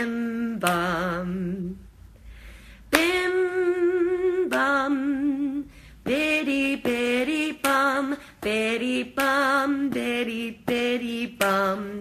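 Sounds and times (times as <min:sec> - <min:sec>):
woman singing unaccompanied: 0:00.0 - 0:02.0, 0:02.8 - 0:12.0.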